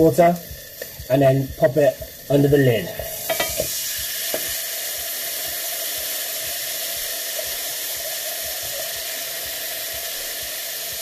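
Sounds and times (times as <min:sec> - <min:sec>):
faint sizzle: 0:00.0 - 0:11.0
water hissing in hot frying pan: 0:00.0 - 0:11.0.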